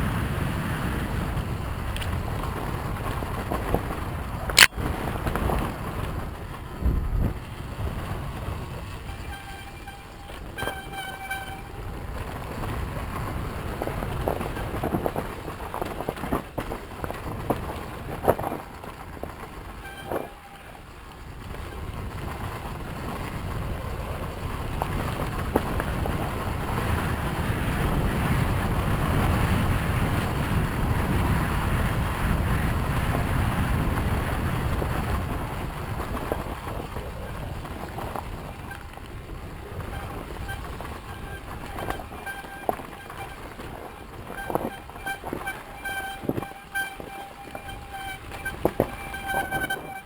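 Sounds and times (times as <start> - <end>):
dirt bike engine running: 0.0 - 50.0
wind noise on microphone: 0.0 - 50.0.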